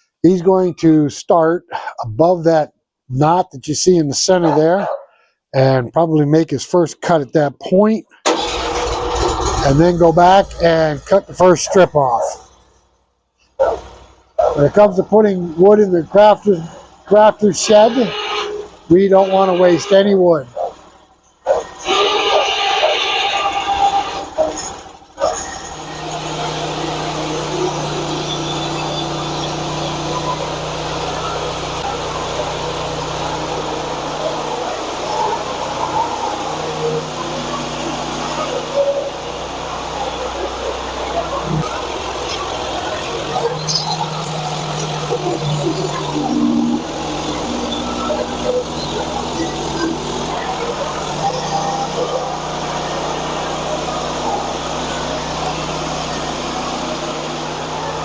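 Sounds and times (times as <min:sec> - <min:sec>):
small gasoline engine running: 0:08.3 - 0:12.9, 0:13.6 - 0:58.0
band sawmill sawing log: 0:08.4 - 0:12.4, 0:13.6 - 0:58.0.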